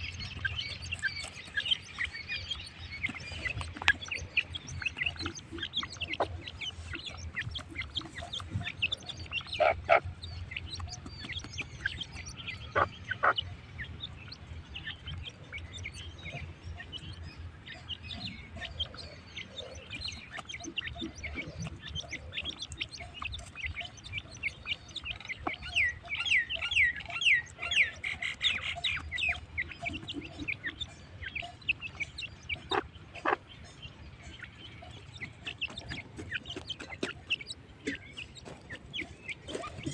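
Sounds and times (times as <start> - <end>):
partridges chirping and clucking: 0.0 - 39.9
sharp bird calls: 0.0 - 39.9.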